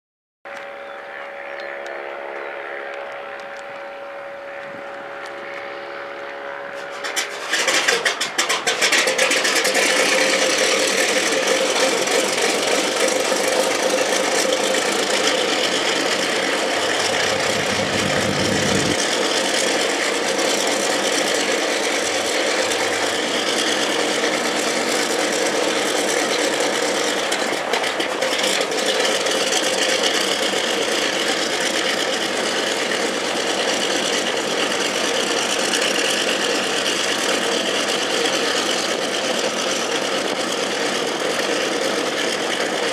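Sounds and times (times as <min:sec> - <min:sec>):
radial engine idling: 0:06.8 - 0:42.9.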